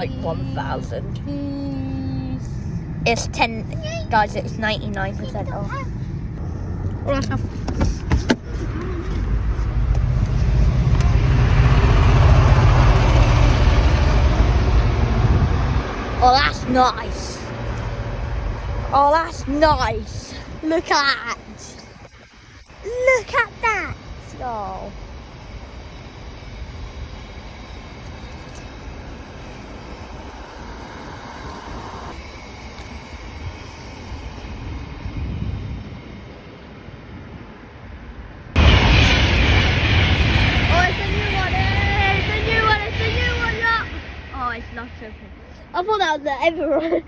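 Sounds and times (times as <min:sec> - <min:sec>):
high-pitched hum: 0:00.0 - 0:37.1, 0:38.5 - 0:47.0
train rumble and wheel noise: 0:00.0 - 0:47.0.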